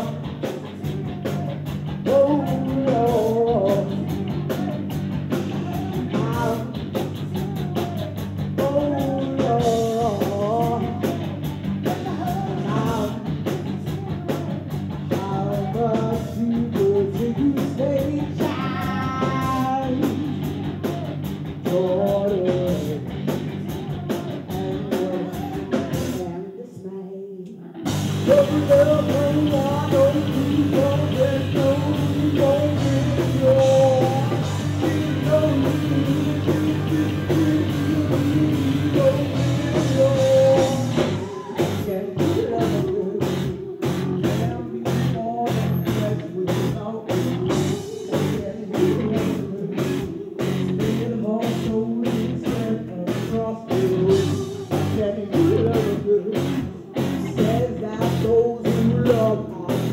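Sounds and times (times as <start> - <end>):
woman singing: 0.0 - 21.1, 23.6 - 59.9
live rock band: 0.0 - 26.5, 27.5 - 59.9.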